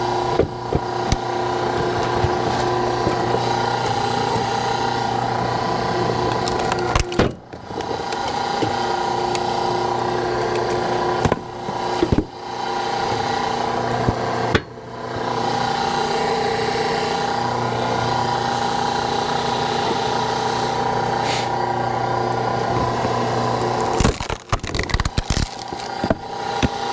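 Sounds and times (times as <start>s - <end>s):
hydraulic log splitter humming: 0.0s - 26.9s.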